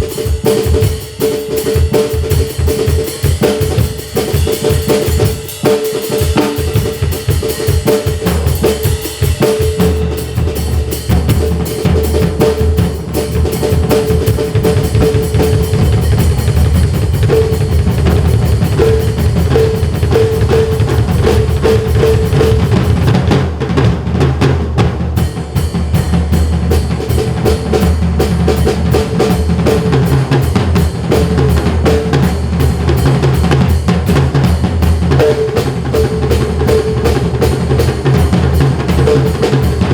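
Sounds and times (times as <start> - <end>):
fast drum kit solo: 0.0 - 39.9.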